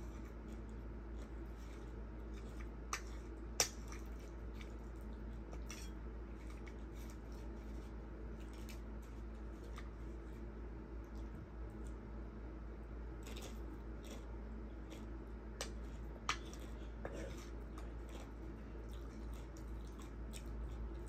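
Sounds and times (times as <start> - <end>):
clicks and crunches of eating: 0.0 - 12.2, 12.9 - 21.0
low hum: 0.0 - 21.0.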